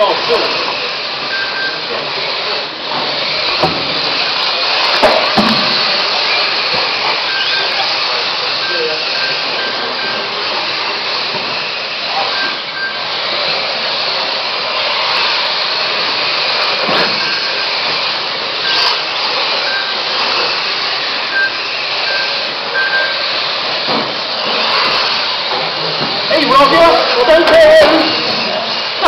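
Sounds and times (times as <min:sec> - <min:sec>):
electric motors and tyres whirring: 0:00.0 - 0:29.0
high whines of passing cars: 0:00.0 - 0:29.0.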